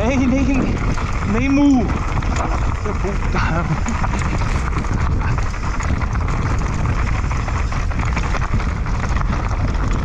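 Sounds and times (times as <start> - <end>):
bike clattering and rattling: 0.0 - 10.0
tyres crunching over gravel: 0.0 - 10.0
wind buffeting microphone: 0.0 - 10.0.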